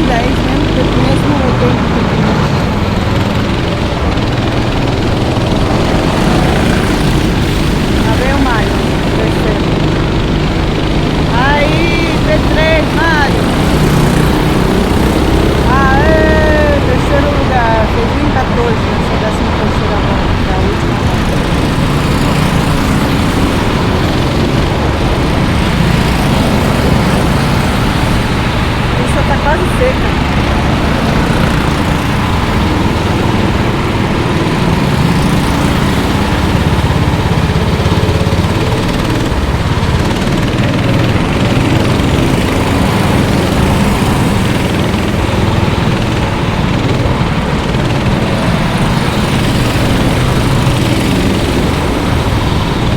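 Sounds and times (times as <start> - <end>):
cars rushing on wet track: 0.0 - 52.9
kart engines droning: 0.0 - 52.9.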